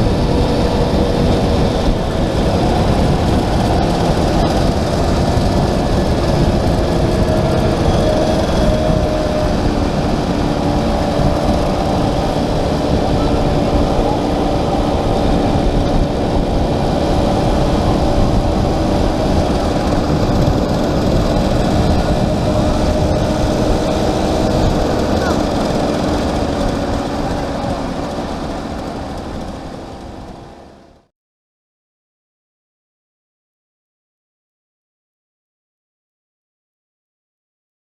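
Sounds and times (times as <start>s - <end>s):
wind rumble on microphone: 0.0s - 30.9s
motorcycle engine running: 0.0s - 31.1s.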